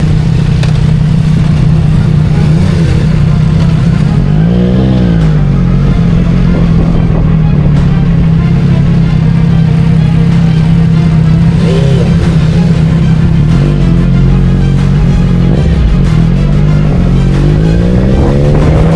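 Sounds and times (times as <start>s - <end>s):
motorcycle engine revving: 0.0s - 18.9s
motorcycle engine running: 0.0s - 18.9s.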